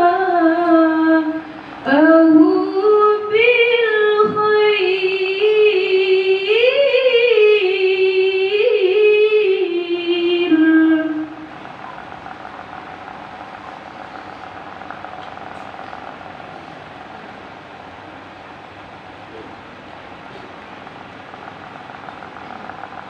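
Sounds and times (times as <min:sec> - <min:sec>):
woman reciting melodically: 0:00.0 - 0:19.2, 0:20.0 - 0:23.0
steady background noise: 0:00.0 - 0:23.0.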